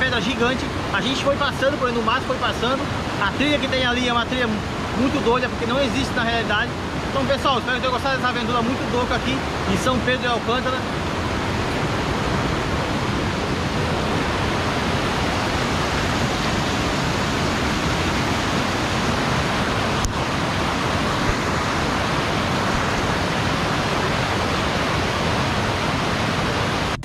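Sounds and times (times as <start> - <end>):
waterfall roaring onto rocks: 0.0 - 27.0.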